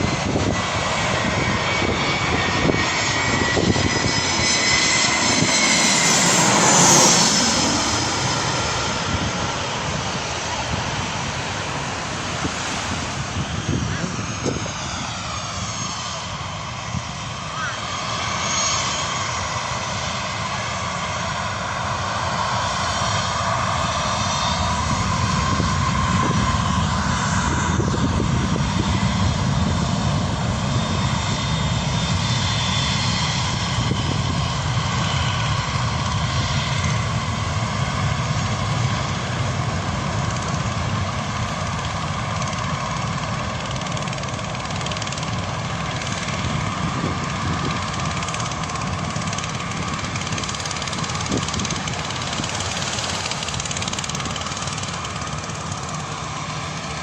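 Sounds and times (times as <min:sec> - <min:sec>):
airliner engines passing: 0:00.0 - 0:57.0.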